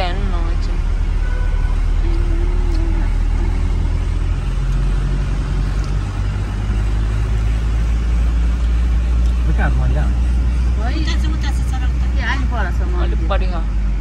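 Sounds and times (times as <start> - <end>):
car engine hum: 0.0 - 14.0
road noise deep rumble: 0.0 - 14.0.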